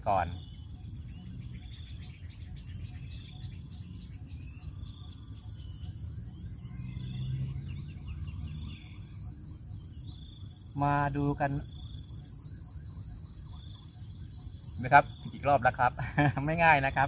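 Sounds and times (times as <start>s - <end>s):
birds chirping: 0.0s - 17.0s
high insect drone: 0.0s - 17.0s.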